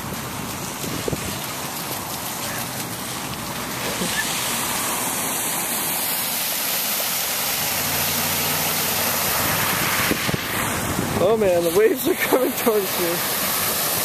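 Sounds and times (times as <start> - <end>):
floodwater rushing down street: 0.0 - 14.0
heavy rain: 0.0 - 14.0.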